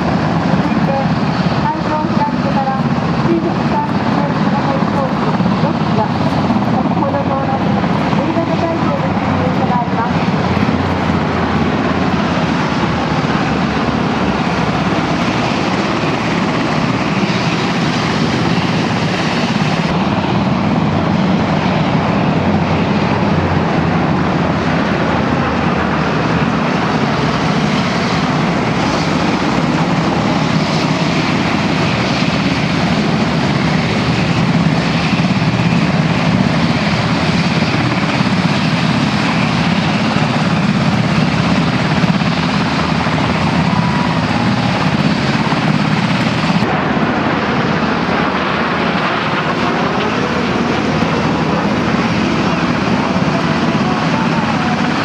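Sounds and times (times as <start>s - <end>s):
turboprop aircraft droning: 0.0s - 55.0s.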